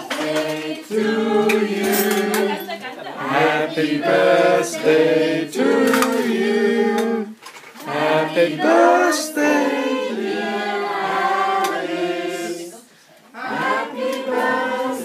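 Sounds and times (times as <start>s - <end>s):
group singing unaccompanied: 0.0s - 15.0s.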